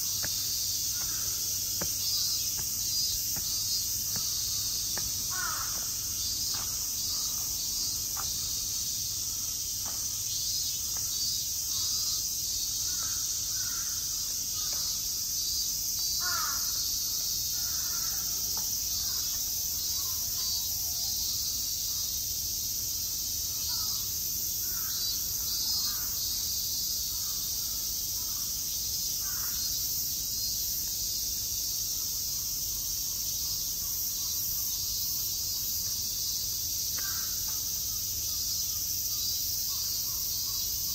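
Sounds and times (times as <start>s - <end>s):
high-pitched insect drone: 0.0s - 28.4s, 32.0s - 40.9s.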